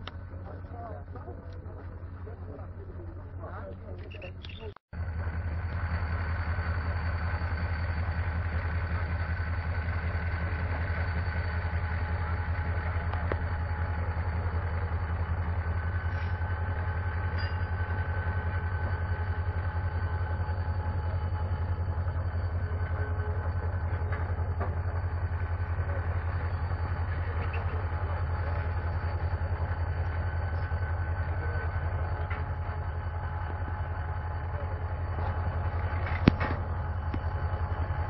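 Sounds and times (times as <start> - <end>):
faint even whine: 0.0 - 38.0
locomotive engine idling: 0.0 - 38.0.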